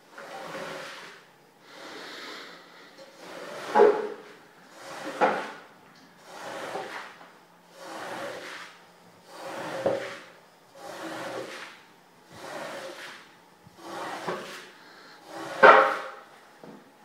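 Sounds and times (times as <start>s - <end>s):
tool scraping wet rug: 0.0s - 16.4s.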